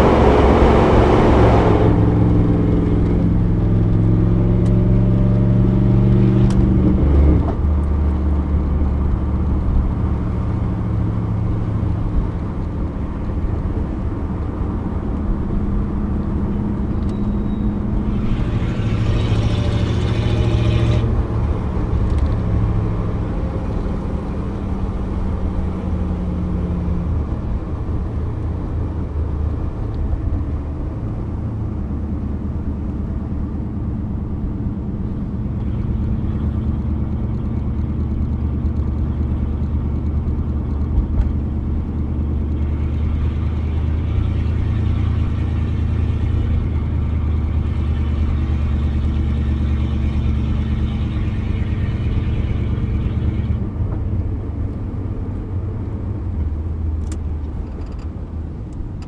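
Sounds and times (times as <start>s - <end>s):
car engine from inside cabin: 0.0s - 59.0s.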